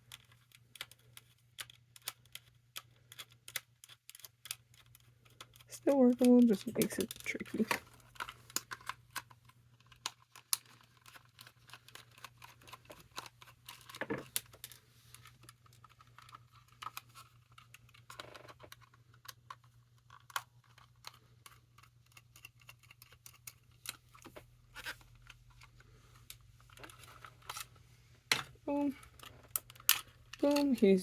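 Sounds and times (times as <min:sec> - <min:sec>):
plastic parts and tools clicking: 0:00.0 - 0:31.0.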